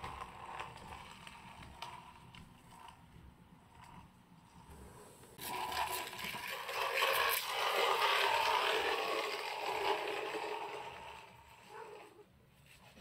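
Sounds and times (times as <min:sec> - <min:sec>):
small wheels rolling on wood floor: 0:00.0 - 0:12.2.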